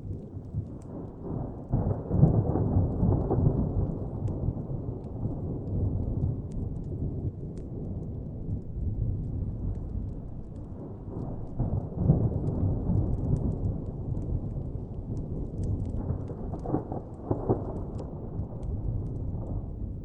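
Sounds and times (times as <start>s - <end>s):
fire crackling: 0.0s - 20.0s
distant thunder rumbling: 0.1s - 20.0s.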